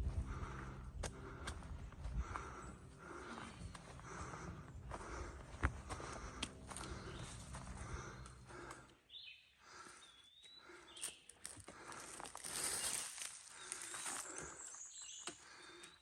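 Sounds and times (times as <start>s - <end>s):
footsteps on dirt trail: 0.0s - 8.9s, 9.8s - 15.9s.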